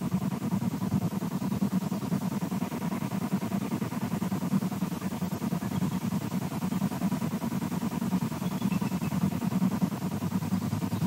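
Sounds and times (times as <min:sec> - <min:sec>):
low wavering hum: 0:00.0 - 0:11.0.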